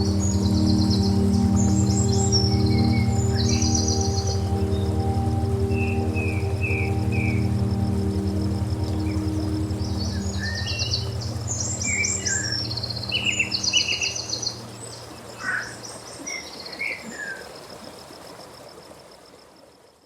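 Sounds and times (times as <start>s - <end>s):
ambient music drone: 0.0s - 16.2s
birds chirping and trilling: 0.0s - 17.5s
insect trill: 0.0s - 20.0s.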